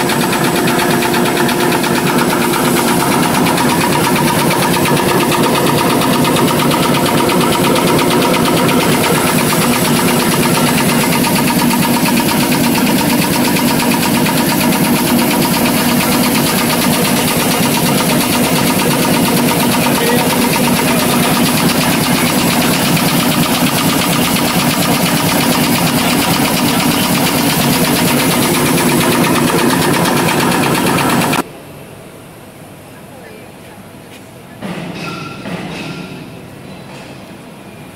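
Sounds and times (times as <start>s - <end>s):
paper towel machine clattering: 0.0s - 31.4s
machine hum: 0.0s - 33.2s.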